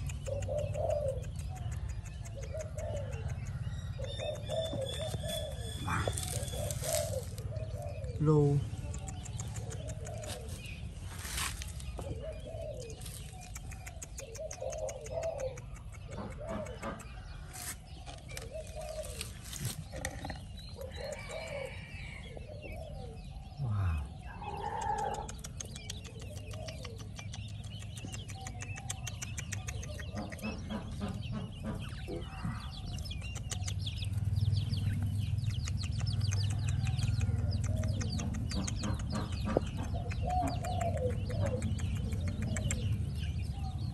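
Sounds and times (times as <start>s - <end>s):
birds cooing: 0.0s - 43.9s.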